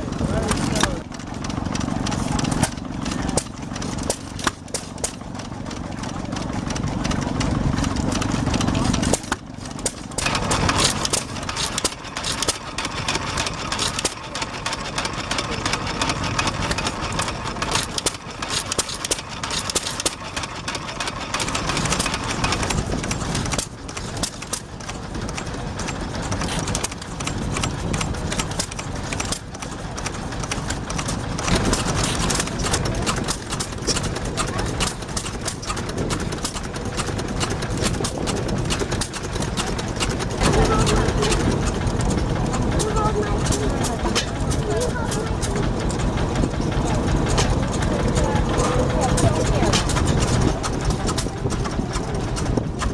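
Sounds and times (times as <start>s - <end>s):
stationary engines knocking exhaust: 0.0s - 52.9s.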